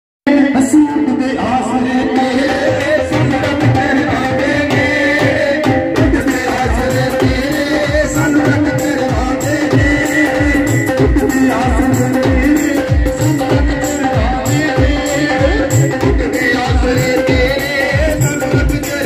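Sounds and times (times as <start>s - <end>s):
man singing through microphone: 0.2s - 19.0s
drum beat: 2.0s - 19.0s.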